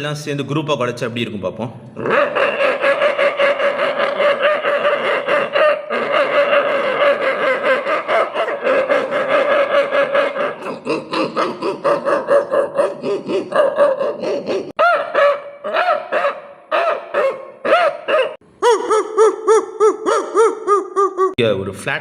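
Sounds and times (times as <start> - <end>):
man imitating dogs barking: 2.0 - 21.4.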